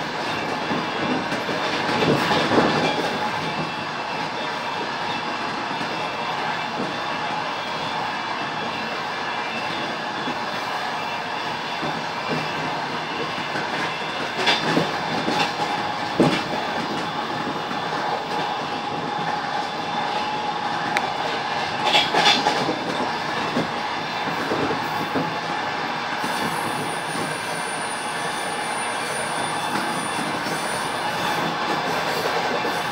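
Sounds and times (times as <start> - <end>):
train rumble: 0.0 - 32.9.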